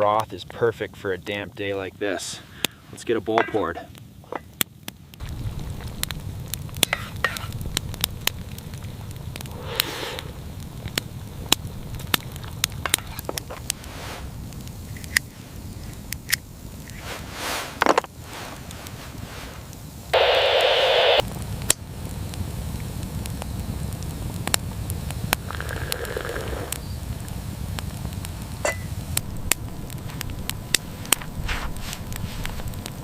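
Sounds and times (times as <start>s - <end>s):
campfire crackling and popping: 0.0s - 33.0s
low steady rumble: 5.2s - 26.1s, 26.7s - 33.0s
loud hiss: 5.2s - 33.0s.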